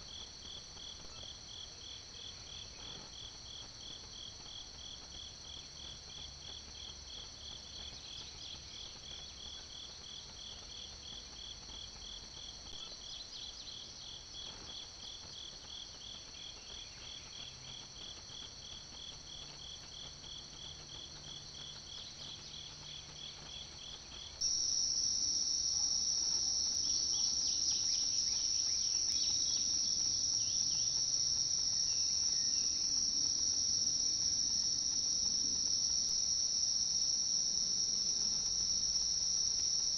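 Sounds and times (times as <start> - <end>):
crickets and insects trilling: 0.1 - 39.9.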